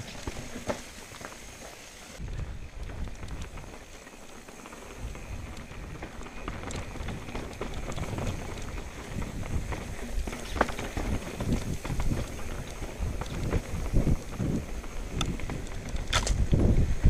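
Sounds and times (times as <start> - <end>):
tyres crunching on stones: 0.0 - 16.8
bike clicks and rattles: 0.0 - 17.0.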